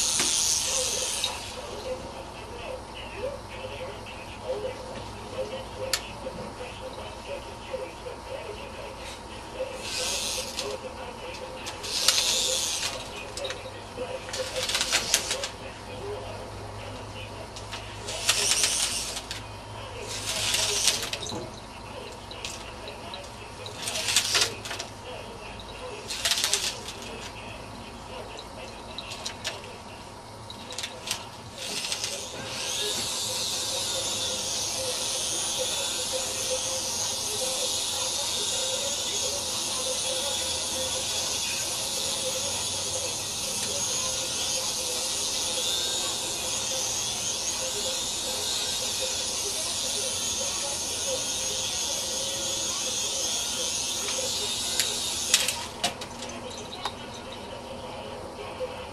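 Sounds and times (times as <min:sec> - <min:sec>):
helicopter rotor whirring: 0:00.0 - 0:57.8.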